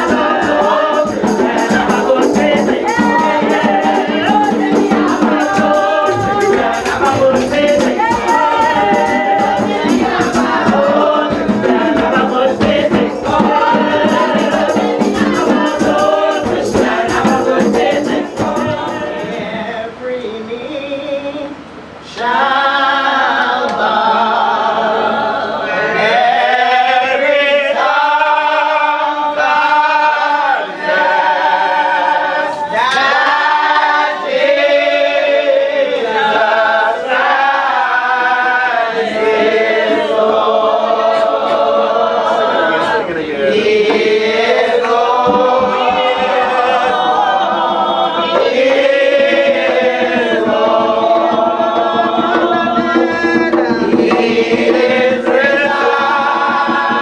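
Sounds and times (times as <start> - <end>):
congregation singing: 0.0 - 57.0.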